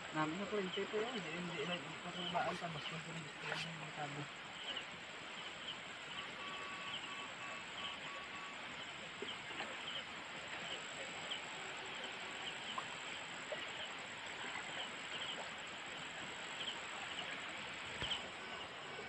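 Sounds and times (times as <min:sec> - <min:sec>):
insect chirps: 0:00.0 - 0:19.0
insect chorus hiss: 0:00.0 - 0:19.0.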